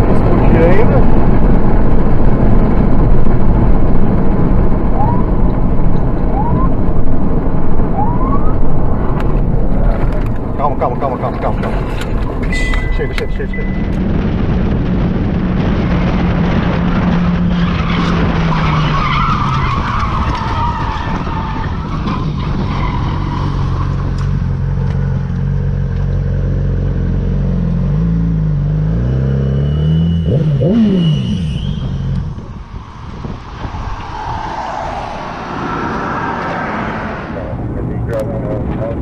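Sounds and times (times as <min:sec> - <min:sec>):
wind rush: 0:00.0 - 0:24.5, 0:30.7 - 0:39.0.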